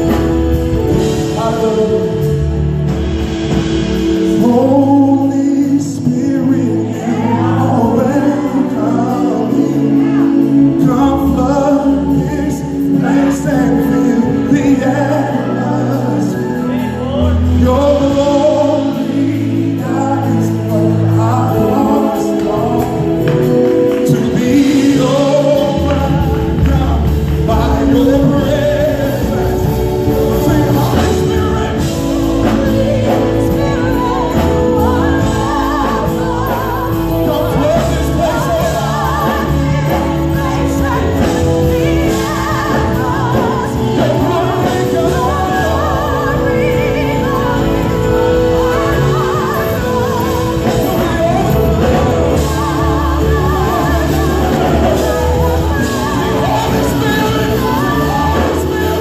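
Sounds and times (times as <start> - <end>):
backing singers: 0.0 - 59.0
band playing: 0.0 - 59.0
bass line: 0.0 - 59.0
man singing lead vocals: 0.0 - 59.0.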